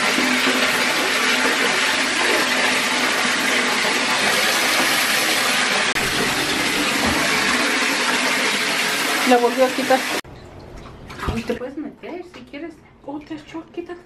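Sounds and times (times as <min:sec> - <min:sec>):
water pouring into bathtub: 0:00.0 - 0:11.7.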